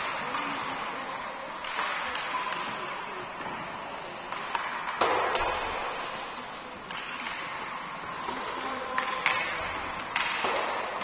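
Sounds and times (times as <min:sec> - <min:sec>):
hockey sticks and puck clacking: 0:00.0 - 0:11.0
skates scraping ice: 0:00.0 - 0:11.0.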